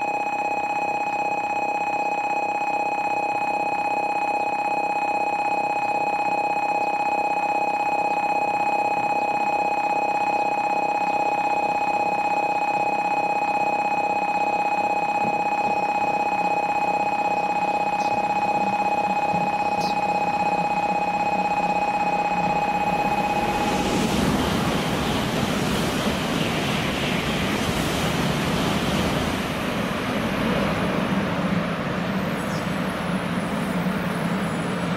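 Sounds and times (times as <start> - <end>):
electronic warning bell ringing: 0.0 - 30.8.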